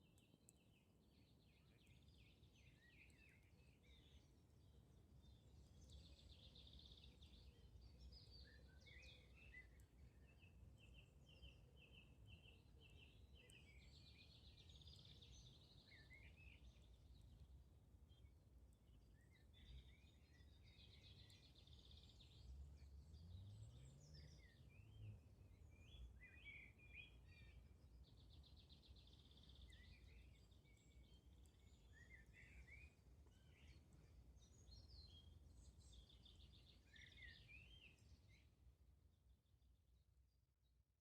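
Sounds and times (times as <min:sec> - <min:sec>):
songbirds chirping and trilling: 0:00.0 - 0:39.6.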